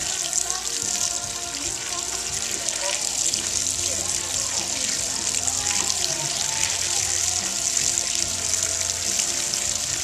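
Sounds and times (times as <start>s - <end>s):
garden hose spraying and splashing: 0.0s - 10.0s.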